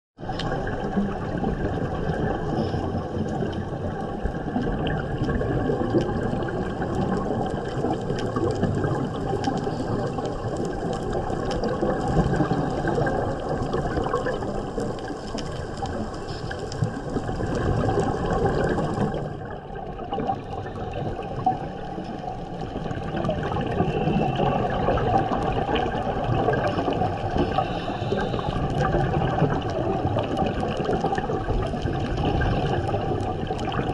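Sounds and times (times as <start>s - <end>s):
fine crackling underwater: 0.2s - 33.9s
underwater watery rush: 0.2s - 33.9s.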